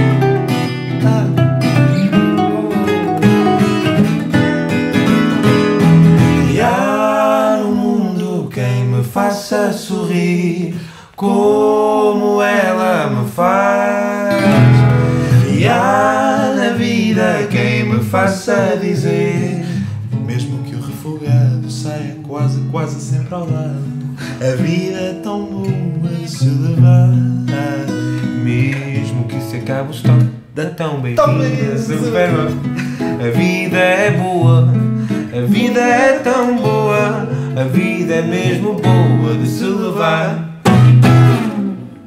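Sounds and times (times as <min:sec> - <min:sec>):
acoustic guitars playing: 0:00.0 - 0:42.0
man singing wordless melody: 0:00.8 - 0:03.6, 0:06.2 - 0:40.6.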